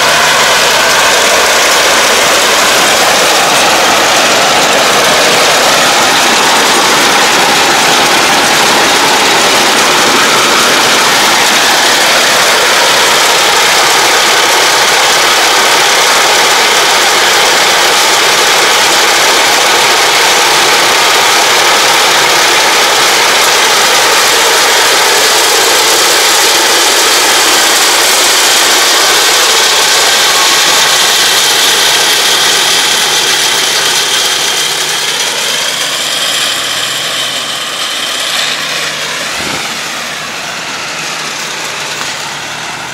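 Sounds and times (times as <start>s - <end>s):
roll baler baling straw: 0.0s - 42.9s
tractor diesel engine running: 0.0s - 42.9s.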